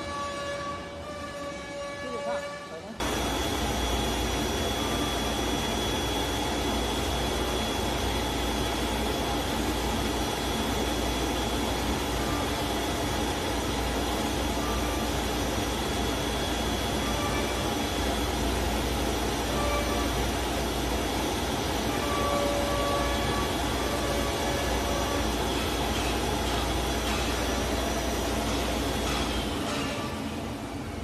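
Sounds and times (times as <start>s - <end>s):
thin high whine: 3.0s - 30.6s
machine air blower rushing: 3.0s - 31.0s.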